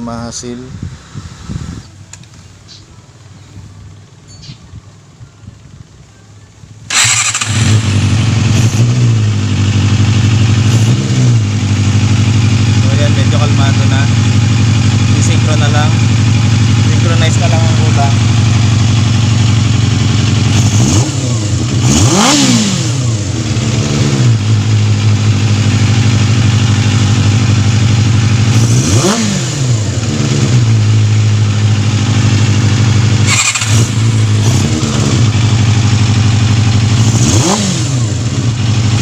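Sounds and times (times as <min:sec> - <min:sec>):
motorcycle engine idling and revving: 0:00.0 - 0:39.0.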